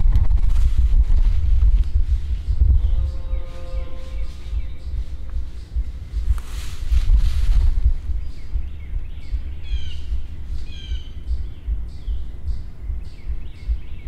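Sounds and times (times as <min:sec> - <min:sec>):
rustle of movement: 0:00.0 - 0:13.8
steady low rumble: 0:00.0 - 0:14.0
songbird singing: 0:00.1 - 0:14.0.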